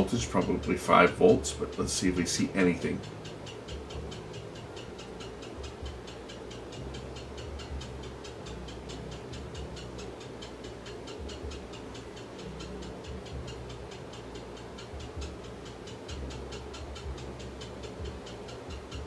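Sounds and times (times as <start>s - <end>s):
low hum: 0.0s - 19.0s
steady ticking: 0.0s - 19.0s.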